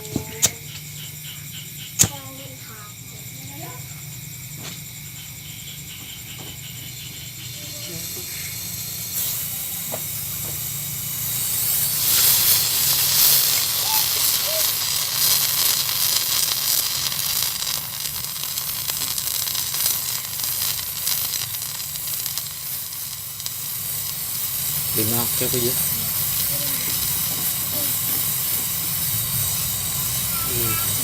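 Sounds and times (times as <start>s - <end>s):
gas torch flame hissing: 0.0s - 31.0s
steady low hum: 0.0s - 31.0s.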